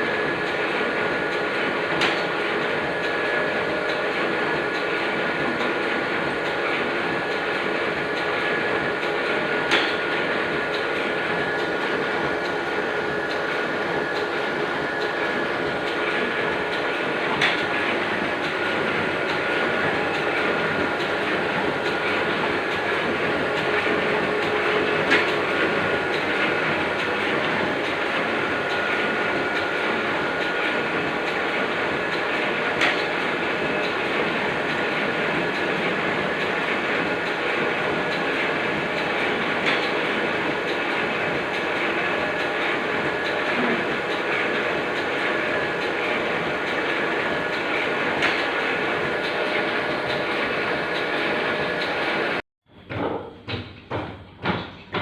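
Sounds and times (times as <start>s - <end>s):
printing press clattering: 0.0s - 55.0s.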